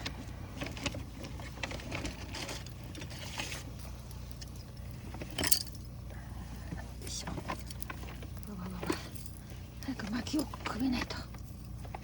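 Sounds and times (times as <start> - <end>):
low fire rumble: 0.0 - 12.0.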